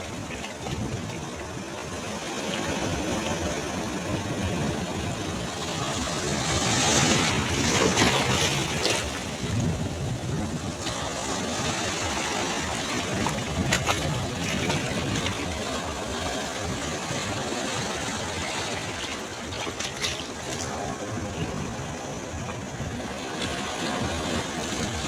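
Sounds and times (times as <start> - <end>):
sea waves breaking on beach: 0.0 - 25.0.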